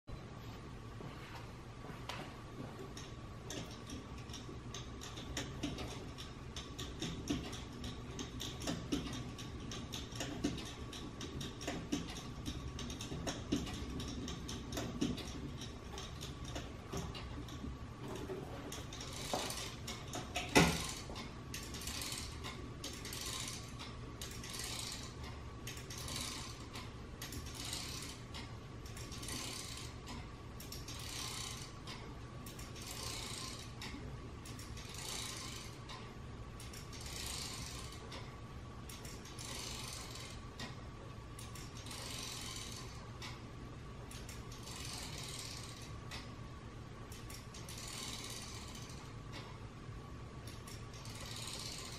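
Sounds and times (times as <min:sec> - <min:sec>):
gear train rasping: 0:02.9 - 0:38.3, 0:38.9 - 0:40.8, 0:41.4 - 0:43.4, 0:44.1 - 0:46.3, 0:47.1 - 0:49.5, 0:50.5 - 0:51.9
ratchet clicking rapidly: 0:03.0 - 0:36.0, 0:36.6 - 0:38.3, 0:38.9 - 0:40.8, 0:41.4 - 0:43.4, 0:44.1 - 0:46.3, 0:47.1 - 0:49.5, 0:50.5 - 0:51.9.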